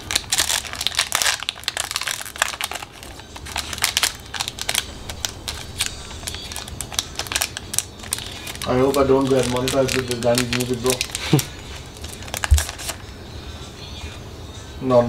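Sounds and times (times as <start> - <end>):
foil wrapper crinkling: 0.0 - 13.1.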